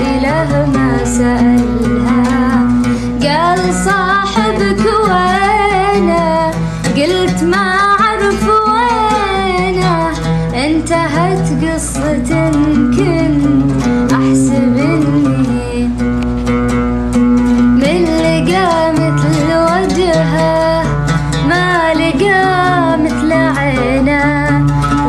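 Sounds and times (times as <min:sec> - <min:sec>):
woman singing: 0:00.0 - 0:16.2, 0:17.6 - 0:25.0.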